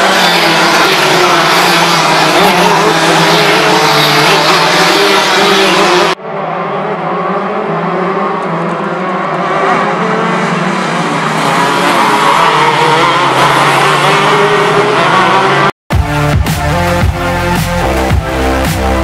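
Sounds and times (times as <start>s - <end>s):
racing kart engines: 0.0s - 15.8s.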